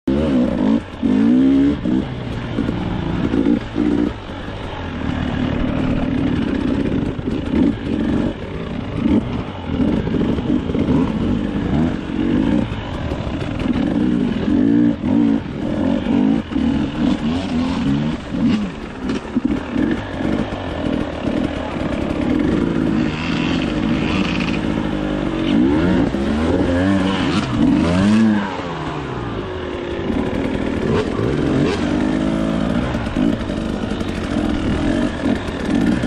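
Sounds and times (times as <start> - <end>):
dirt bike engine revving: 0.1 - 36.0.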